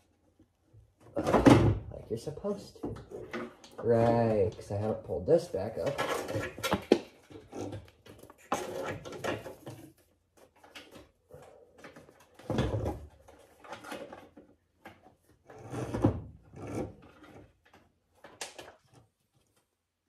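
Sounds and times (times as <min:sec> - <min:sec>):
rubbing and scraping of parts: 0:02.7 - 0:19.4.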